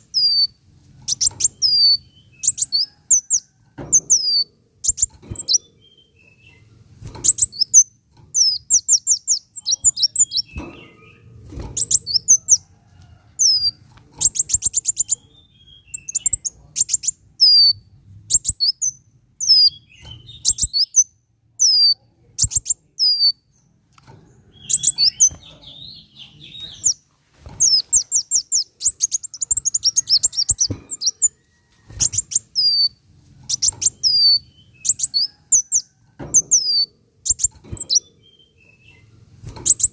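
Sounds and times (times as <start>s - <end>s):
sunbird singing high chirps: 0.0s - 12.6s, 13.4s - 23.6s, 24.5s - 27.0s, 27.6s - 31.4s, 32.0s - 39.9s.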